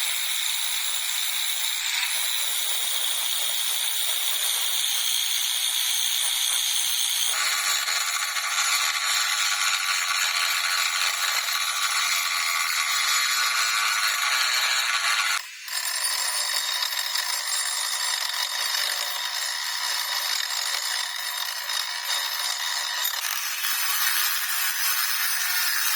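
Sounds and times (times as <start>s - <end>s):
power tool grinding: 0.0s - 25.9s.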